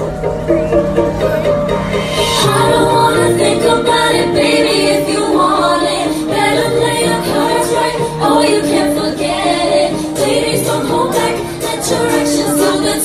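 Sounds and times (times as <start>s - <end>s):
women singing pop song: 2.2s - 13.0s.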